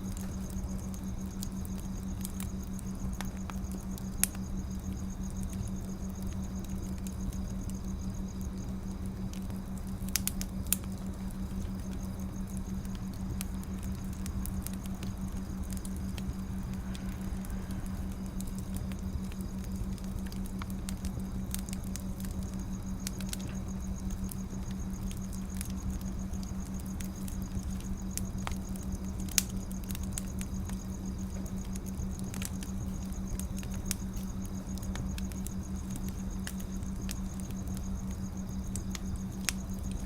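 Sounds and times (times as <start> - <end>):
steady low hum: 0.0 - 40.0
wood fire crackling and popping: 0.0 - 40.0.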